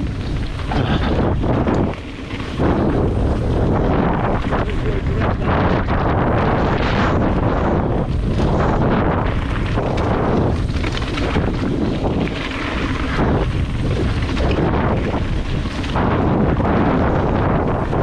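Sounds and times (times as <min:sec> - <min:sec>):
bike rattling: 0:00.0 - 0:18.0
bike tyres rumbling on trail: 0:00.0 - 0:18.0
wind buffeting microphone: 0:00.0 - 0:18.0.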